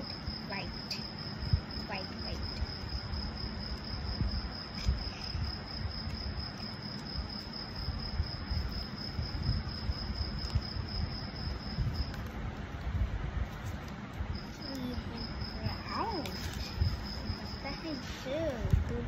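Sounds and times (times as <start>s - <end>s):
cricket chirring: 0.0s - 12.8s, 13.5s - 18.7s.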